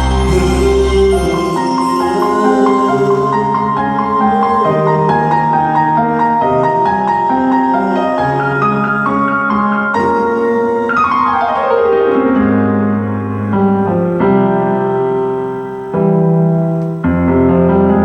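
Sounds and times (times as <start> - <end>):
keyboard sustained chords: 0.0 - 18.0.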